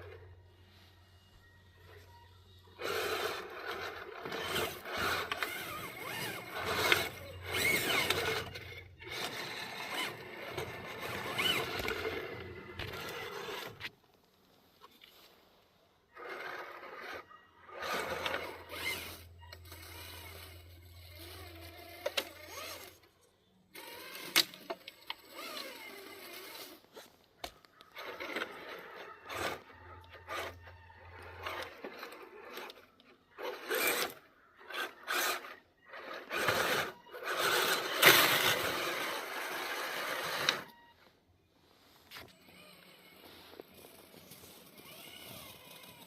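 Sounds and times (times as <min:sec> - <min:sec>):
toy truck motors whining: 0:00.0 - 0:13.9, 0:16.1 - 0:41.2, 0:41.9 - 0:46.0
scraping and crunching over ground: 0:01.8 - 0:46.0.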